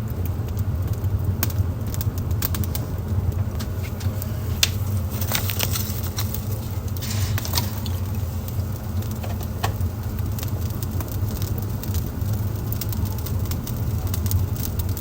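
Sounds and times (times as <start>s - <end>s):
fire hissing: 0.0s - 15.0s
wood fire crackling: 0.0s - 15.0s.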